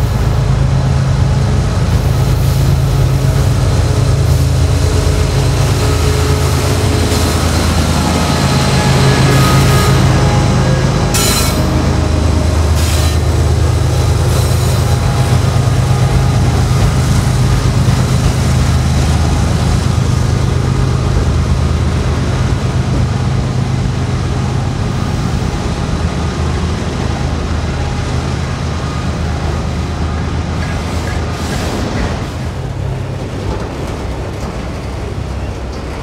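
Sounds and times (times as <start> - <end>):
locomotive engine rumble: 0.0 - 36.0
train wheels on rails: 0.0 - 36.0.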